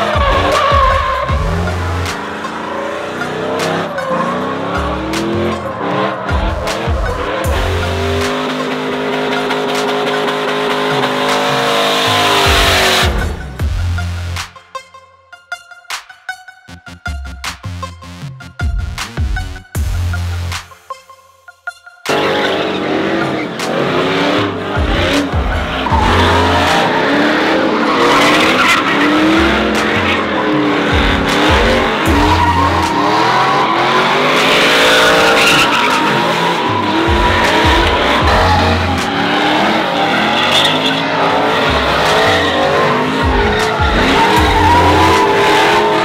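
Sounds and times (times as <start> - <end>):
tires squealing on pavement: 0.0 - 13.4, 22.1 - 46.0
pickup truck engines revving: 0.0 - 14.4, 22.1 - 46.0.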